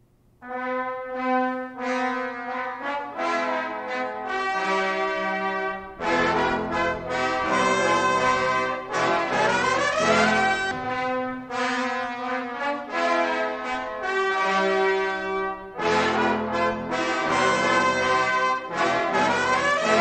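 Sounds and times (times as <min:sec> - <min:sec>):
brass instrumental music: 0:00.4 - 0:20.0.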